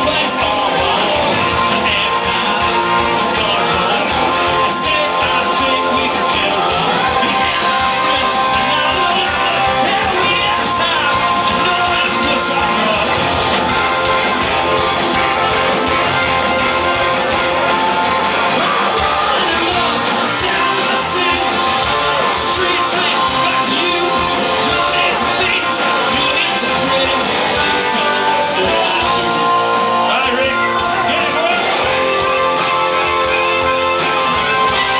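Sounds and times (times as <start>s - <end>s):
man singing: 0.0s - 13.2s, 18.6s - 34.9s
rock band playing: 0.0s - 34.9s.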